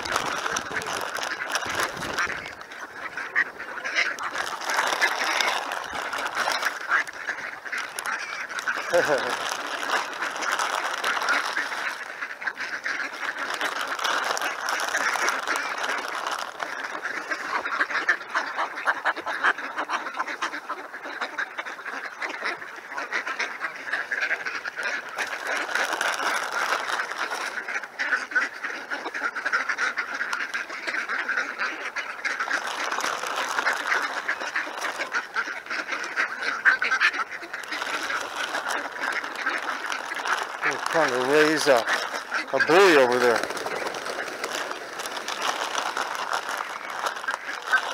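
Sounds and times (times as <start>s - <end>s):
ducks quacking: 0.0s - 47.9s.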